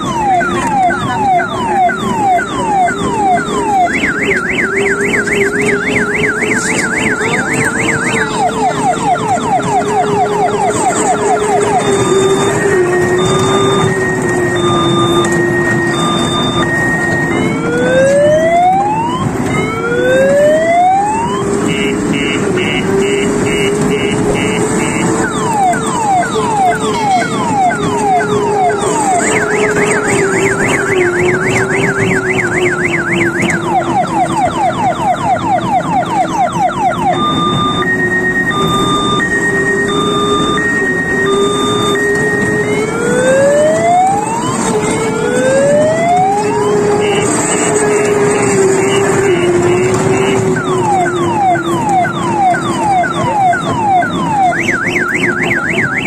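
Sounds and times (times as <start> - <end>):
electronic toy siren effects: 0.0 - 56.0.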